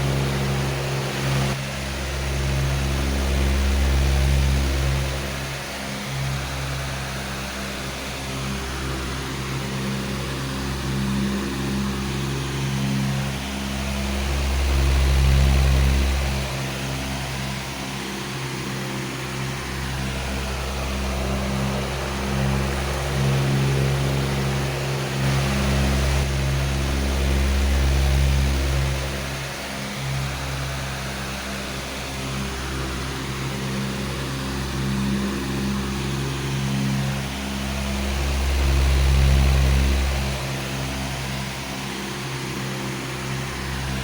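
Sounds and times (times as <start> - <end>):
electric fan running: 0.0 - 44.0.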